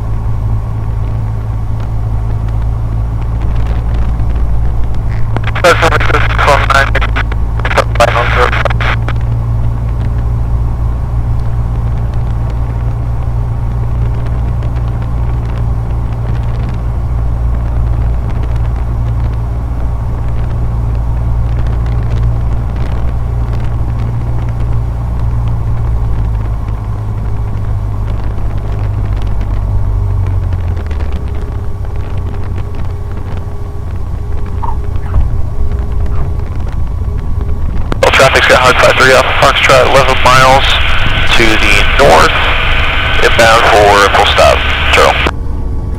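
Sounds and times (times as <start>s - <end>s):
light aircraft engine droning: 0.0s - 45.9s.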